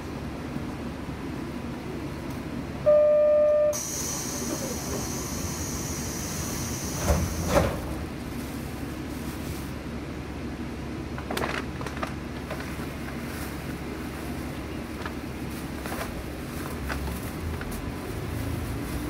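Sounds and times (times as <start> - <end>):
railcar running on track: 0.0 - 19.0.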